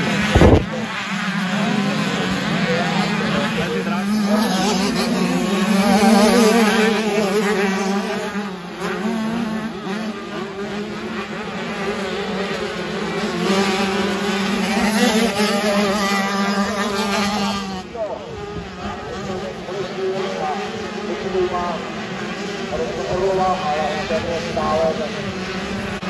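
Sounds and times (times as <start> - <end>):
motorcycle engine buzzing: 0.0 - 26.0.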